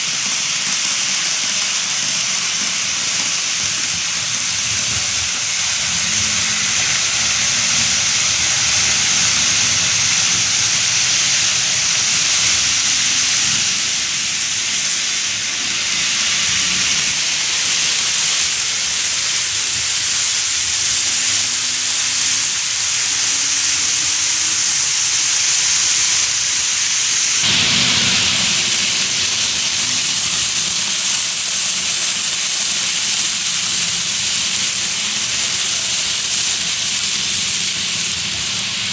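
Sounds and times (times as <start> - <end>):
model train whirring on rails: 0.0 - 38.9.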